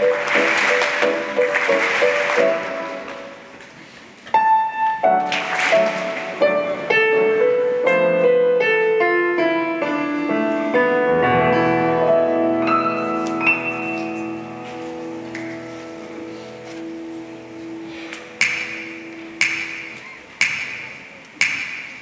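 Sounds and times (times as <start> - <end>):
piano melody: 0.0 - 20.4.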